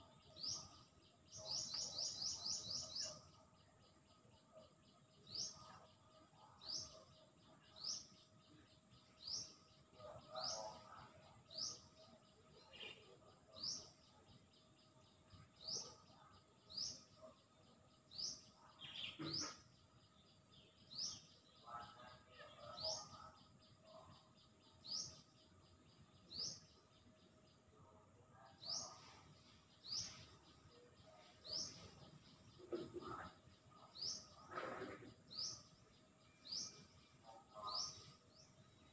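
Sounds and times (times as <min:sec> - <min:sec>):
faint bird chirp: 0:00.0 - 0:38.9.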